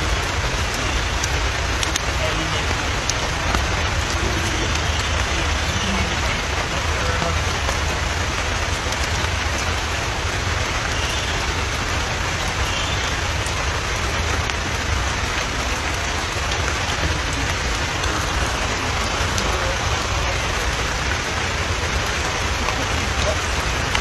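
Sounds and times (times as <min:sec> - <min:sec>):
rain hissing: 0:00.0 - 0:24.0
raindrop ticks: 0:00.0 - 0:24.0.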